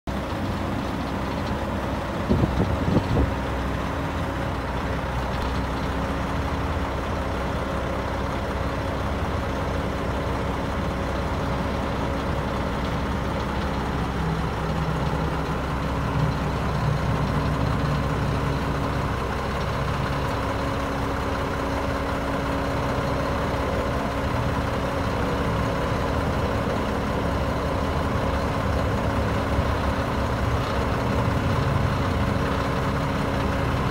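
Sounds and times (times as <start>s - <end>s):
truck diesel engine idling: 0.1s - 33.9s.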